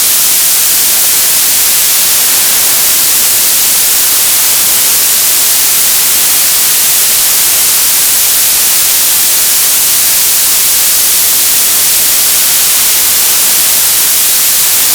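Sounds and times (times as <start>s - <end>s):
television static hiss: 0.0s - 14.9s.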